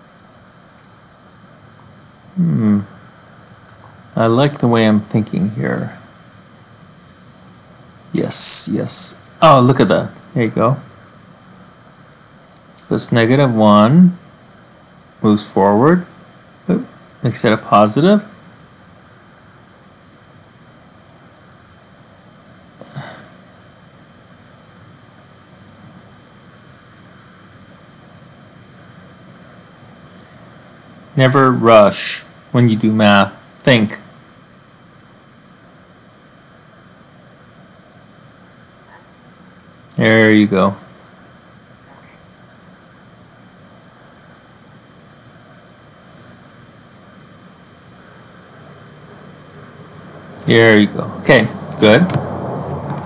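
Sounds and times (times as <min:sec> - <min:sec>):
room hiss: 0:00.0 - 0:53.0.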